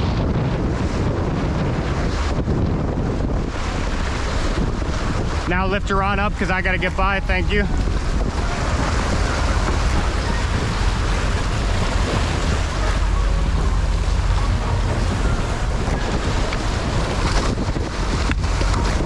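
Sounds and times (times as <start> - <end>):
boat engine rumble: 0.0 - 19.0
water washing: 0.0 - 19.0
wind buffeting microphone: 0.0 - 19.0.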